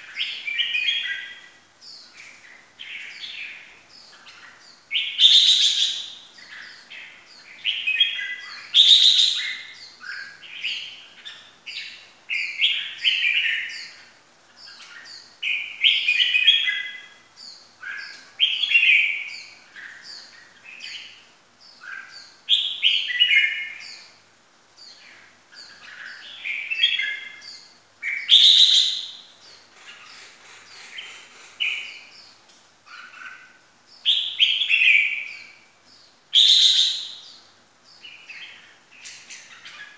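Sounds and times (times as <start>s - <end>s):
bird chirps: 0.0s - 24.2s, 24.8s - 39.9s
bird singing warbled phrases: 0.0s - 39.9s.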